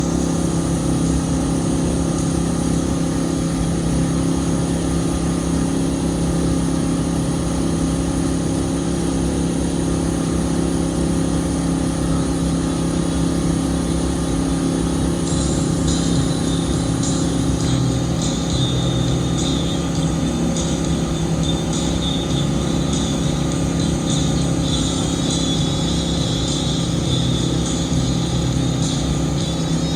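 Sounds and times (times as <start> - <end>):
boat engine droning: 0.0 - 29.9.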